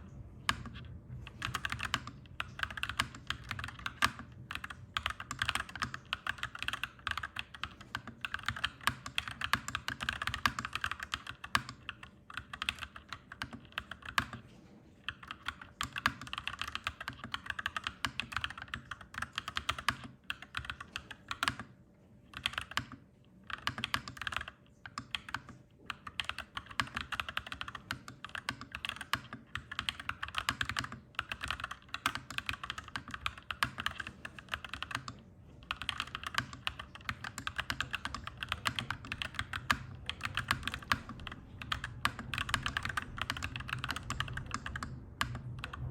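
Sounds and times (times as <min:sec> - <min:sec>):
mechanical keyboard typing: 0:00.4 - 0:45.9.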